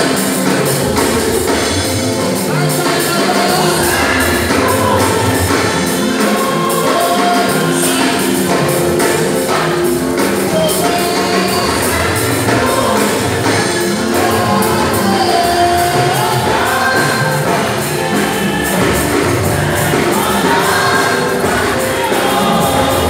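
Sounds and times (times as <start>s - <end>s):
band with percussion beat: 0.0s - 23.0s
congregation singing: 0.0s - 23.0s
lead singer on microphone: 0.0s - 23.0s.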